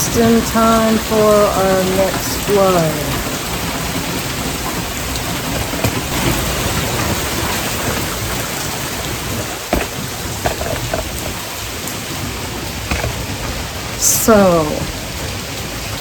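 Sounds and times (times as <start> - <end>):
heavy rain falling: 0.0 - 16.0
sharp raindrop impacts: 0.0 - 16.0.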